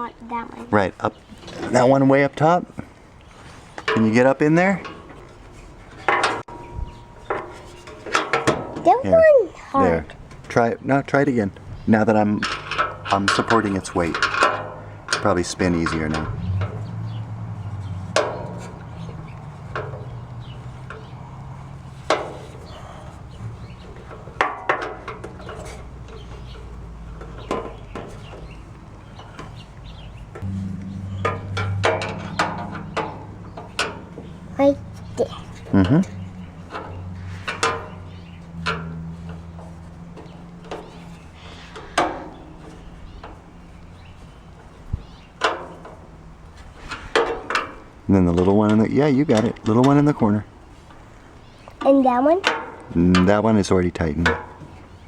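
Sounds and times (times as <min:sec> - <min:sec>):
metal grill panels clanking: 0:03.5 - 0:09.0, 0:10.2 - 0:51.7, 0:52.4 - 0:55.0.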